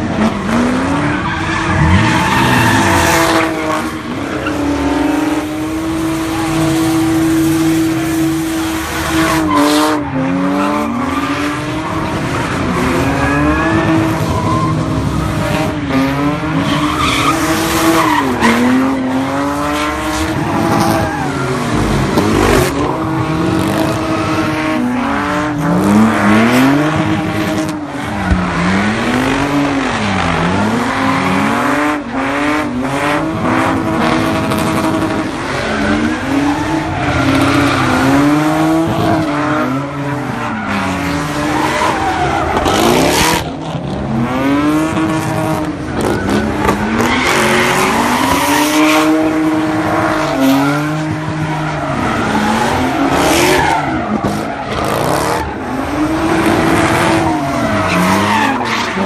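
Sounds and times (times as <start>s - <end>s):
car engine revving: 0.0s - 59.0s
tires squealing: 0.0s - 59.0s.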